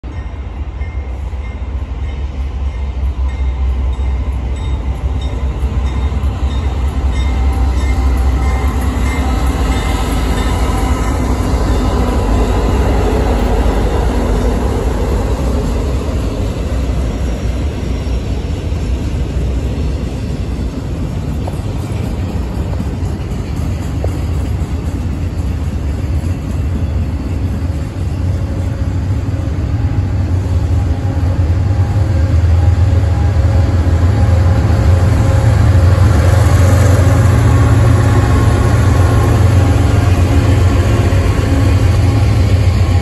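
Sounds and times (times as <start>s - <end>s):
diesel locomotive engine rumble: 0.0s - 43.0s
freight cars rolling on rails: 0.2s - 43.0s.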